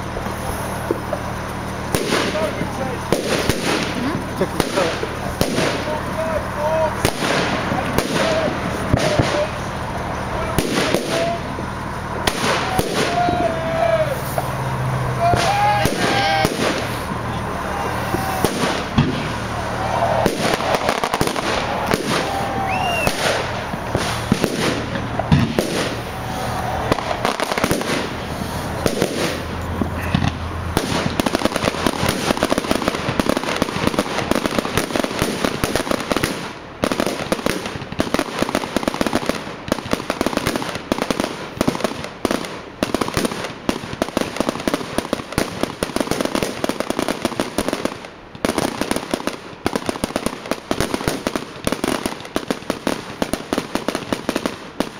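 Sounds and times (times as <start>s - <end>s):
fireworks bangs and crackles: 0.0s - 54.9s
fireworks whistling: 0.0s - 54.9s.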